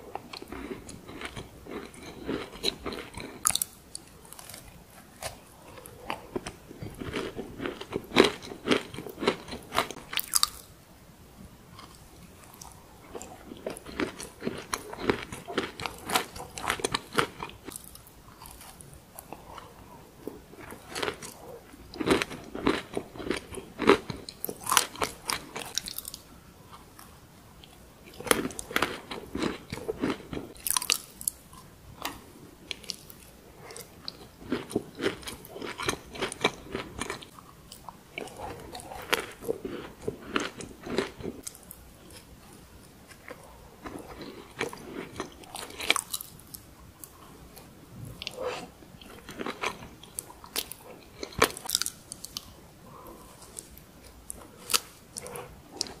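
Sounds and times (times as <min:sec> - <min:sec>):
chewing: 0:00.1 - 0:10.6, 0:11.8 - 0:56.0
crunching cookie: 0:00.1 - 0:10.7, 0:11.8 - 0:42.3, 0:43.0 - 0:56.0.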